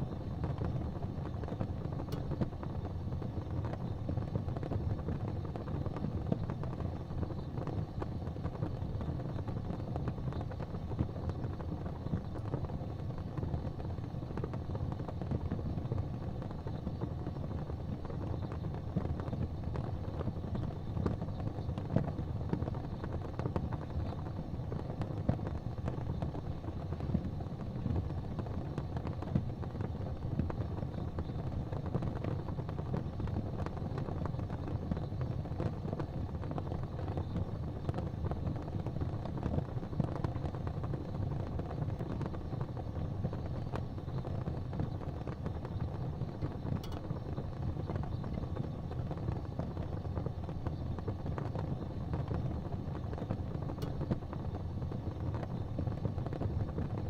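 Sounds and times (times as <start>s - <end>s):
fire crackling in a fireplace: 0.0s - 57.0s.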